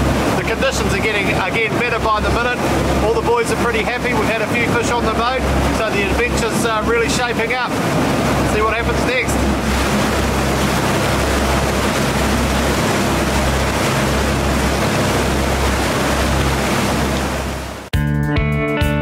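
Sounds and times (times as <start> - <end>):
boat engine drone: 0.0 - 17.9
wake and wind rushing: 0.0 - 17.9.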